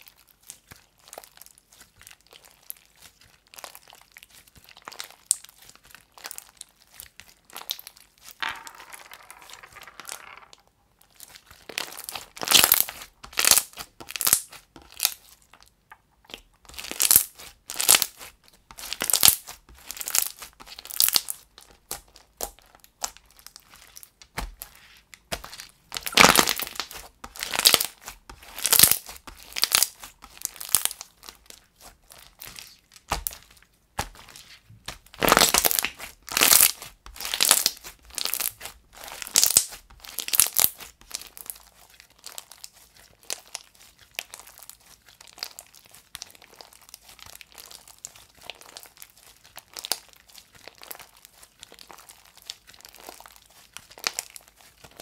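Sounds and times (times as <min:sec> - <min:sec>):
slime crackling and tearing: 0:00.0 - 0:08.4, 0:11.1 - 0:15.6, 0:16.3 - 0:55.0.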